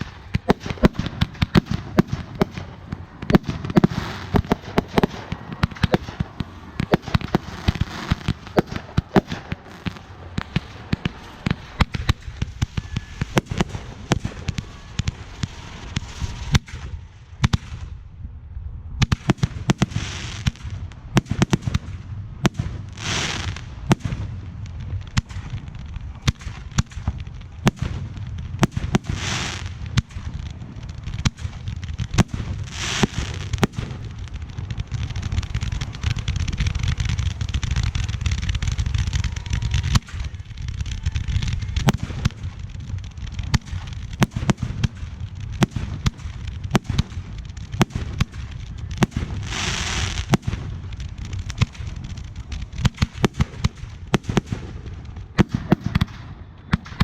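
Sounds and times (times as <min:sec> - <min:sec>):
fireworks hiss: 0:00.0 - 0:17.9, 0:19.0 - 0:57.0
fireworks pops and bangs: 0:00.0 - 0:18.2, 0:19.0 - 0:57.0.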